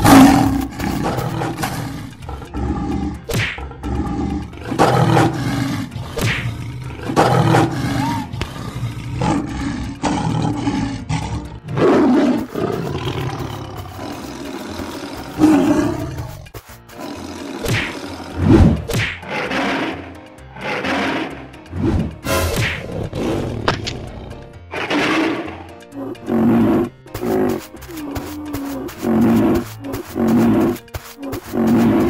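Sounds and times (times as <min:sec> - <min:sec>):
big cat roaring: 0:00.0 - 0:22.2, 0:22.8 - 0:32.0
background music: 0:00.0 - 0:32.0.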